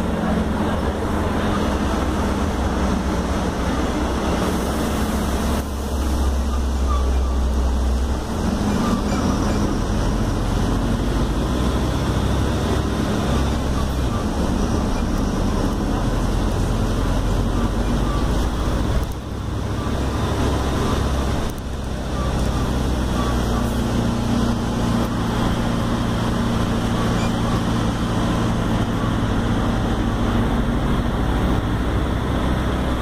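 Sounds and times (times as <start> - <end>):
bus diesel engine running: 0.0 - 33.0
road noise: 0.0 - 33.0.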